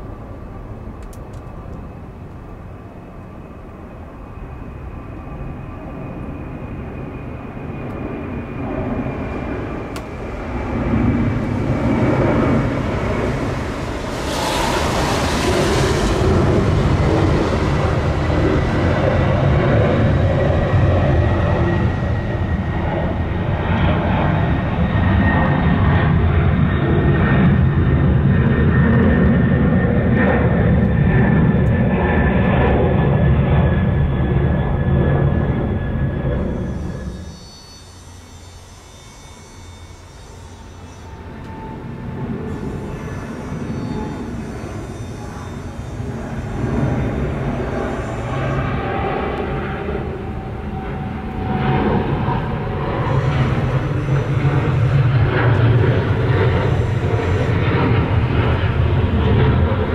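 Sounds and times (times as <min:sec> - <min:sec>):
high jet whine: 0:00.0 - 0:59.9
jet engine rumble: 0:00.0 - 0:59.9.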